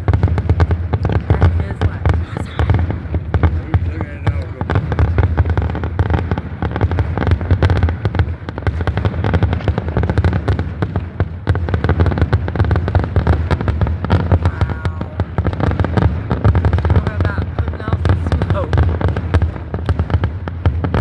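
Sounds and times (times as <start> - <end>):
firework bangs: 0.0 - 21.0
low rumble of booms: 0.0 - 21.0.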